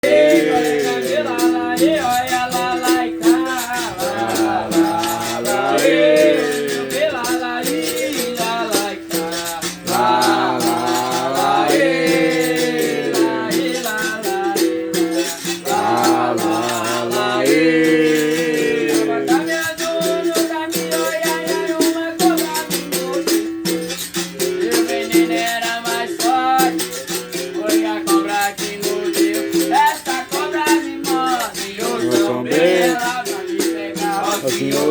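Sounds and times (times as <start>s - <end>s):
shaker rattling: 0.0s - 34.9s.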